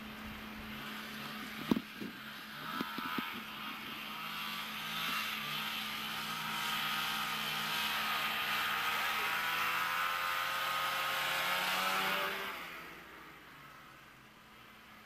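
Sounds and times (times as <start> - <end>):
snowmobile engine approaching: 0.0 - 15.0.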